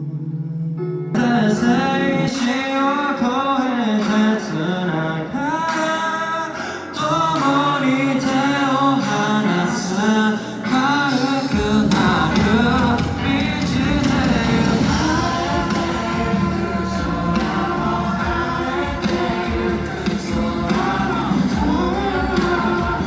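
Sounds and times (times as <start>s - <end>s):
man singing: 0.0s - 23.0s
band playing pop song: 1.1s - 23.0s.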